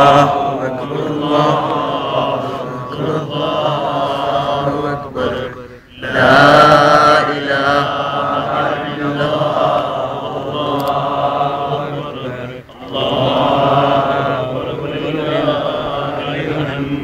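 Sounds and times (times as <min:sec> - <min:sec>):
person chanting religious recitation: 0:00.0 - 0:17.0.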